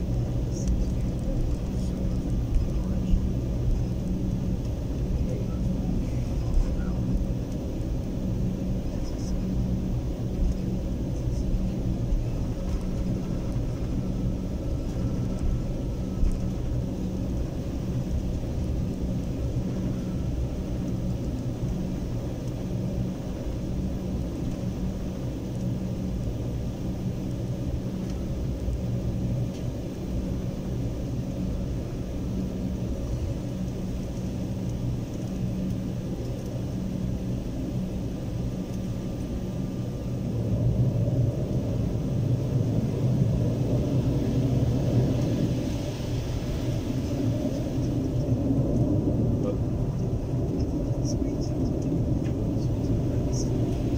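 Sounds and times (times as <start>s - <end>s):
airliner cabin rumble: 0.0s - 53.9s
jet engines idling hum: 0.0s - 53.9s.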